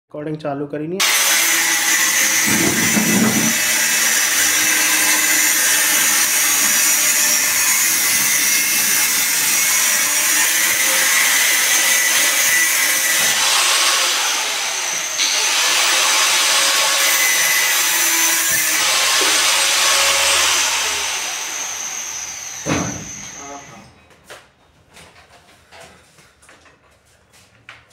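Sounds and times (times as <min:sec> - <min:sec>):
power tool whining: 0:01.0 - 0:23.8.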